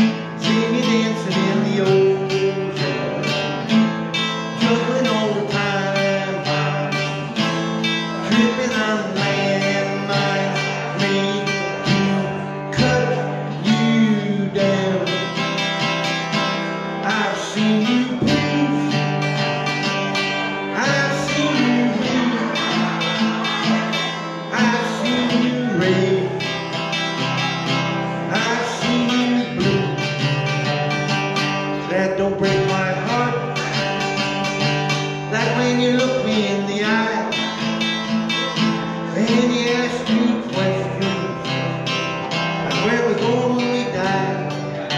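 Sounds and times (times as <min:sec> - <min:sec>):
guitar strummed in chords: 0:00.0 - 0:44.9
man singing: 0:00.0 - 0:44.9.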